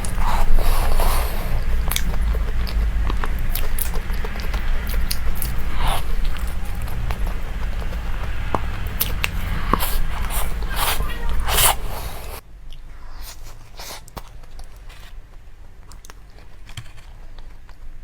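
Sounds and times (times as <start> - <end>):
crunching and biting: 0.0 - 18.0.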